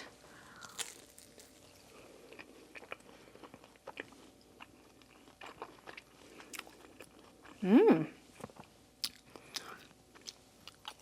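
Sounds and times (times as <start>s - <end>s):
person chewing: 0.5s - 7.6s, 8.4s - 11.0s.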